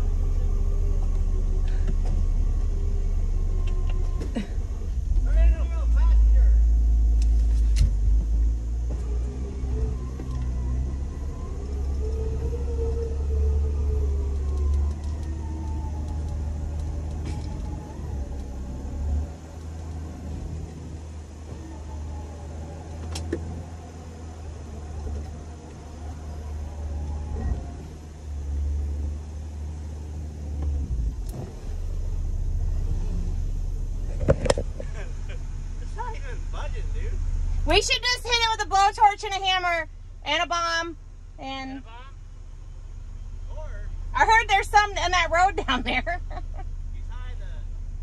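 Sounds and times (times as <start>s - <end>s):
engine low rumble: 0.0s - 48.0s
whining tone: 0.0s - 48.0s.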